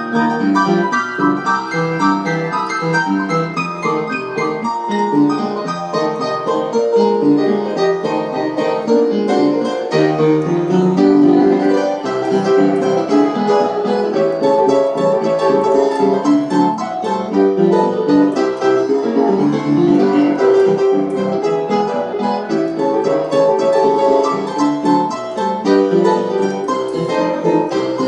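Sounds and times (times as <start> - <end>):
upright piano playing: 0.0 - 28.0.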